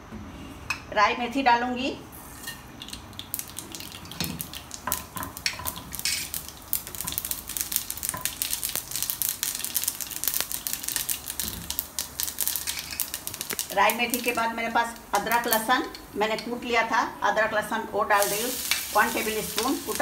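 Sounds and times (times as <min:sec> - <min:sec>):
seeds sizzling and popping in oil: 0:02.5 - 0:16.8, 0:18.0 - 0:20.0.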